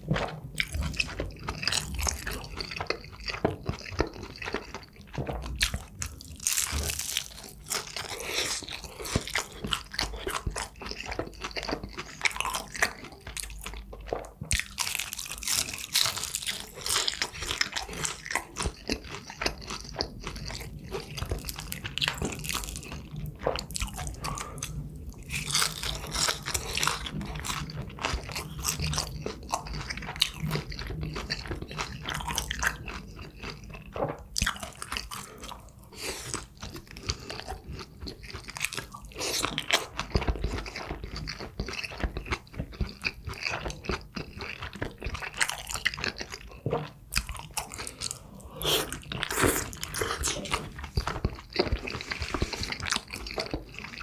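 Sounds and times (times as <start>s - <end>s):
crunchy chewing: 0.0s - 54.0s
wet mouth sounds: 6.8s - 54.0s.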